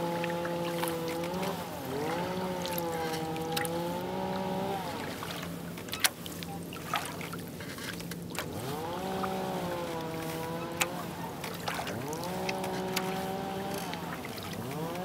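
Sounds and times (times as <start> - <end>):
hum with gliding tones: 0.0 - 15.0
paddle dipping in calm water: 0.0 - 15.0.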